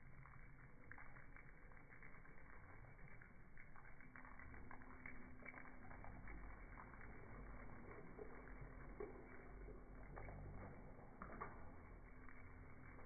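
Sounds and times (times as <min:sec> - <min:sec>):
low steady hum: 0:00.0 - 0:13.0
water splashing in pool: 0:00.0 - 0:13.0.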